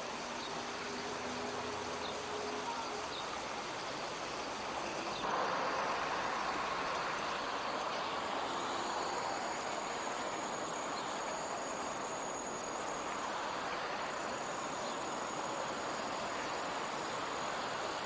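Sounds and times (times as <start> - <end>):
steady hiss: 0.0 - 18.0
thin high-pitched whine: 0.0 - 18.0.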